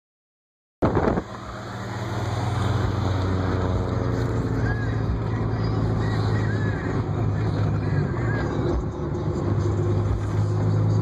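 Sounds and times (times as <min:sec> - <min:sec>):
car engine and road noise: 0:00.8 - 0:11.0.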